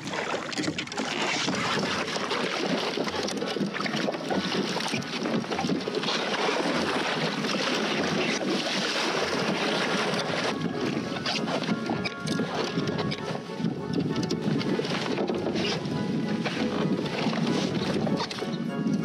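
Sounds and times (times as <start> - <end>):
paddle splashing through water: 0.0 - 19.0
wind on microphone: 0.0 - 19.0.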